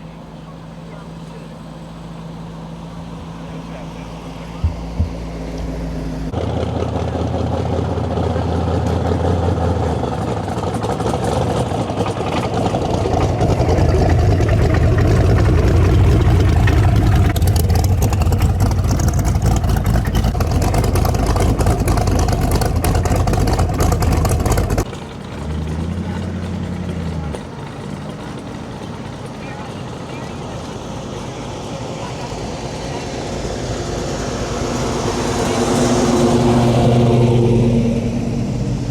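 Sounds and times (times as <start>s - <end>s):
car engine running roughly: 0.0s - 38.9s
quieter engine idling: 0.0s - 38.9s.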